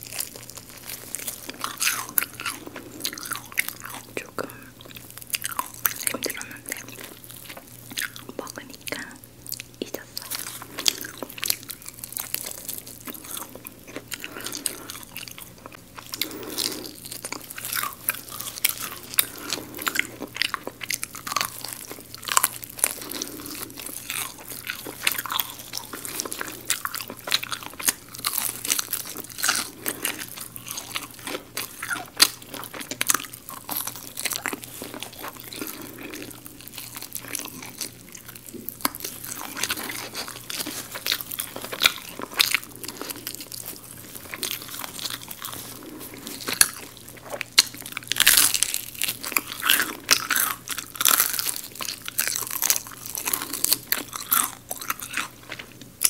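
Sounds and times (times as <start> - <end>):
crunching fried chicken: 0.0 - 56.0
soft chewing: 0.0 - 56.0.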